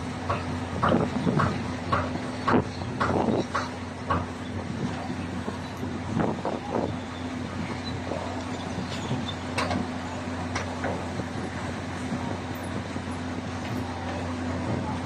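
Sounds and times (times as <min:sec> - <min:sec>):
construction machinery engine hum: 0:00.0 - 0:15.0.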